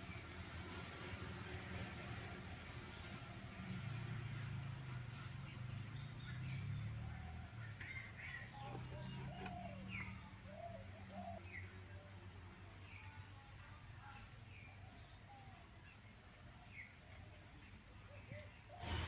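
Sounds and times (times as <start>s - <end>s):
birds chirping: 2.2s - 19.0s.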